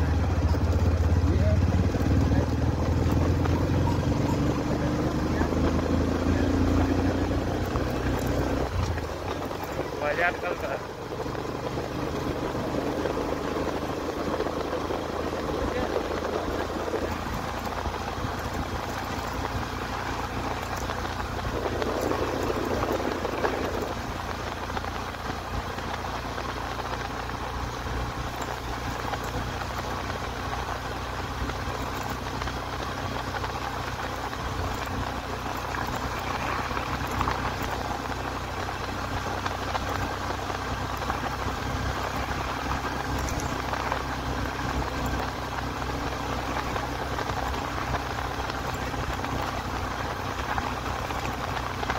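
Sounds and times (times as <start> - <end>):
motorcycle engine hum: 0.0 - 51.9
wind and road noise: 0.0 - 51.9.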